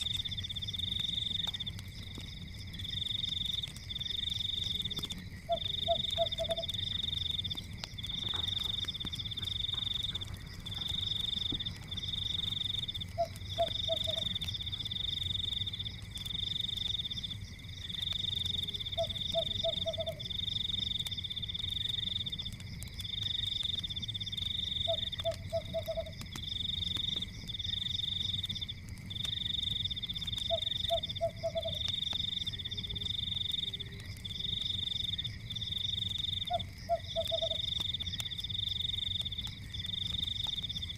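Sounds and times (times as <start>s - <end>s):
fire crackles: 0.0s - 40.9s
frogs trilling: 0.0s - 40.9s.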